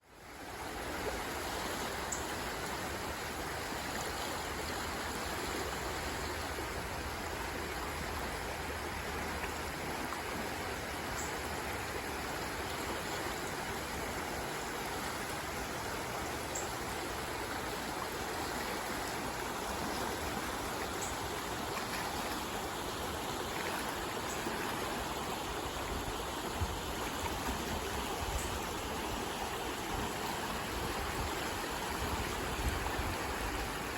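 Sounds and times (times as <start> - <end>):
creek water flowing: 0.0 - 33.9.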